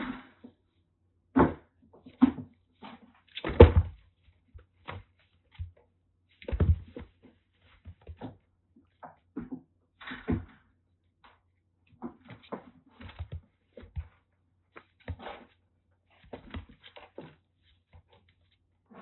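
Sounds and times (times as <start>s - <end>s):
kittens thumping and scuffling: 1.4s - 10.5s, 12.0s - 18.6s.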